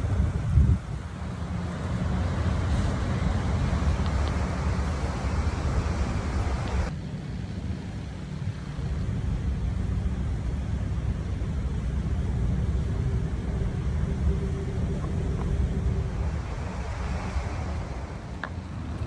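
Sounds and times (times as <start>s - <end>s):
engine idling low rumble: 0.0s - 19.0s.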